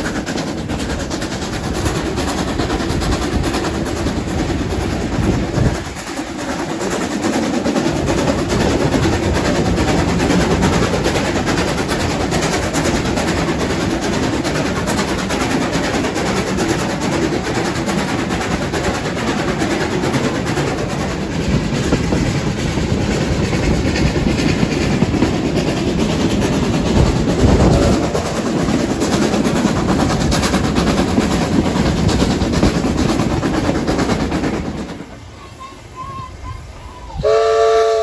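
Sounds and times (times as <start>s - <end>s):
carriage wheels clattering on track: 0.0s - 35.2s
steam locomotive working: 0.0s - 38.0s.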